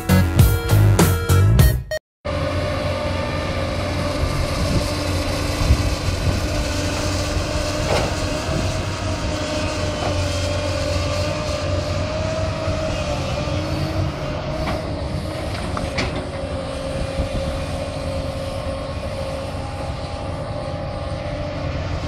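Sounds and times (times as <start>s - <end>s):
excavator engine and hydraulics whine: 2.3s - 22.0s.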